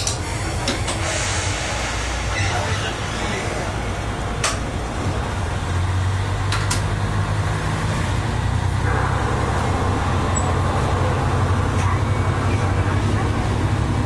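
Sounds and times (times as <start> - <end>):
diesel train engine droning: 0.0 - 14.0.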